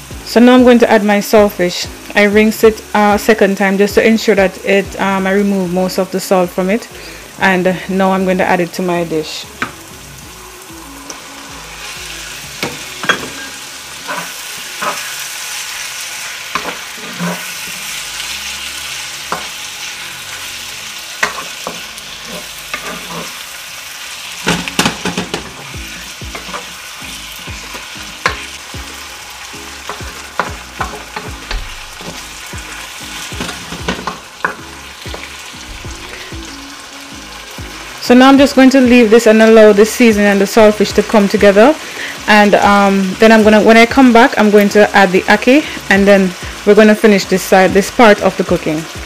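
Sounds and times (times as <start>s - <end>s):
food sizzling in a pot: 0.0s - 49.0s.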